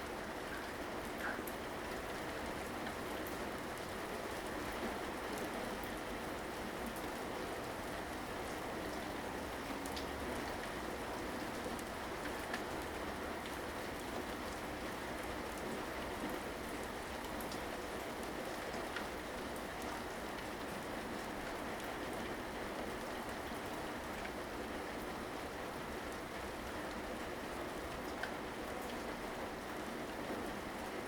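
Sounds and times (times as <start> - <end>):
steady rain pattering: 0.0 - 31.0.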